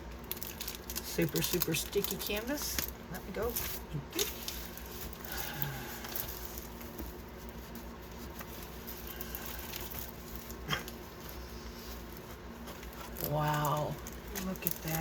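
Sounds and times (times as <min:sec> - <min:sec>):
soft rustling of sticky canvas: 0:00.4 - 0:15.0.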